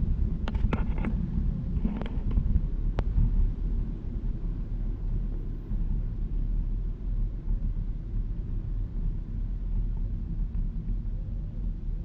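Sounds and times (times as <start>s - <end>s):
car road rumble: 0.0s - 12.0s.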